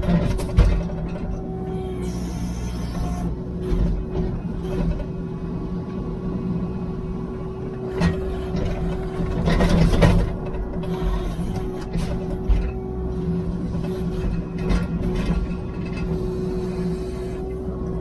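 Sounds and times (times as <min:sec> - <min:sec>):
heavy equipment engine running: 0:00.0 - 0:18.0.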